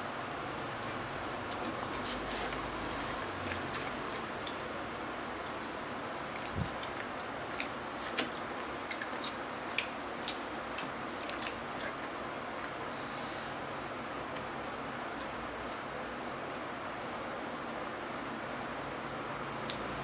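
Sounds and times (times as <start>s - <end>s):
chewing and mouth sounds: 0.8s - 4.8s, 5.4s - 12.9s, 14.1s - 18.7s.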